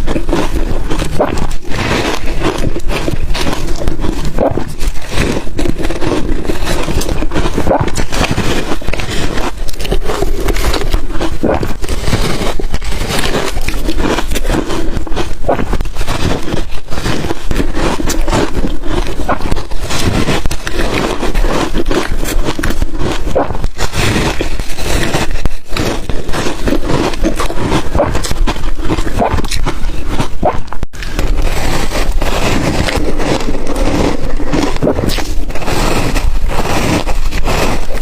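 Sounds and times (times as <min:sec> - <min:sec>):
ice cracking and crunching: 0:00.0 - 0:38.0.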